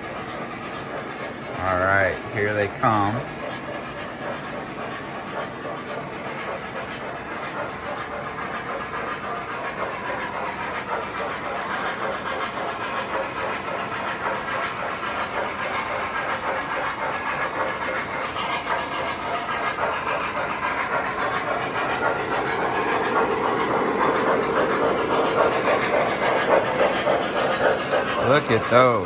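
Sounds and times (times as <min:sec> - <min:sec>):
model steam locomotive chuffing: 0:00.0 - 0:29.0
wheels clicking on track: 0:00.0 - 0:29.0.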